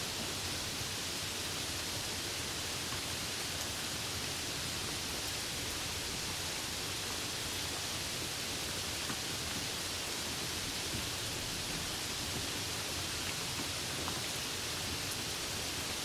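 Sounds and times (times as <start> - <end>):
faint rain patters: 0.0 - 16.0
steady rain: 0.0 - 16.0.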